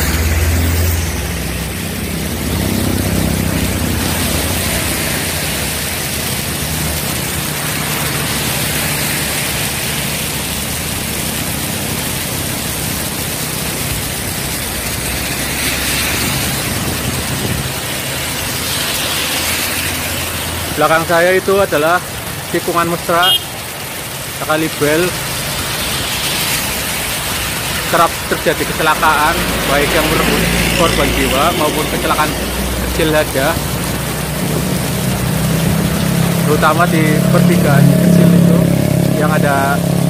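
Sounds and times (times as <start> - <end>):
heavy rain hissing: 0.0 - 40.0
traffic on wet road: 0.0 - 40.0.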